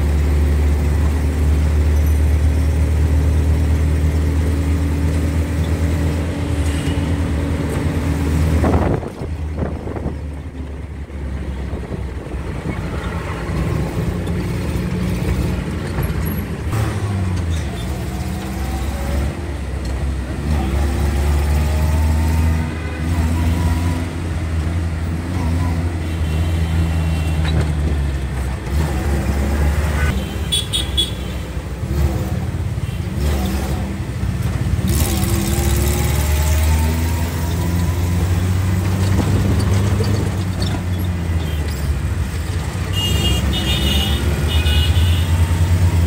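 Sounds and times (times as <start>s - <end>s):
bus engine droning: 0.0s - 30.2s, 31.4s - 46.0s
street traffic: 0.0s - 46.0s.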